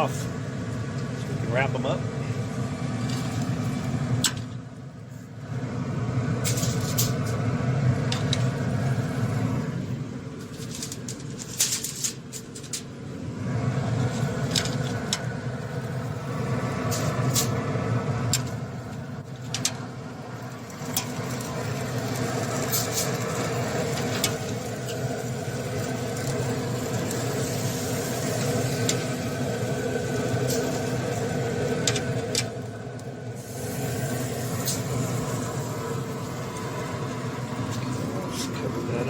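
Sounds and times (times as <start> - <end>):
steady motor hum: 0.0 - 39.0.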